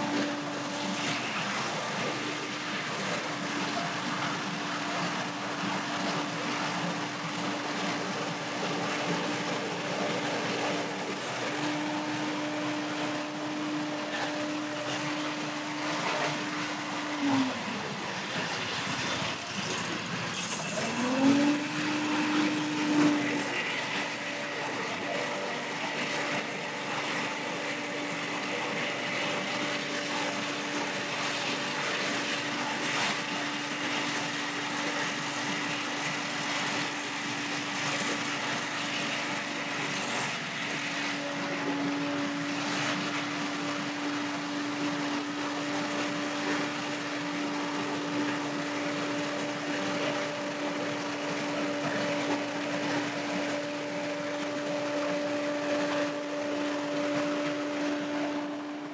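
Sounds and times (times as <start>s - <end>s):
leaf blower engine running: 0.0s - 3.7s, 4.6s - 18.2s, 19.6s - 58.9s.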